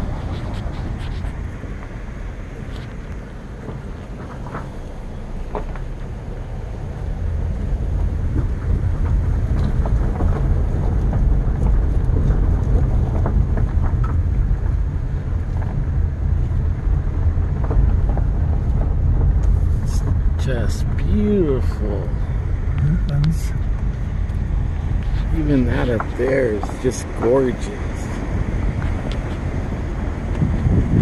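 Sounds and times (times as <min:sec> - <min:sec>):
car driving rumble: 0:00.0 - 0:31.0
wind buffeting microphone: 0:06.1 - 0:31.0.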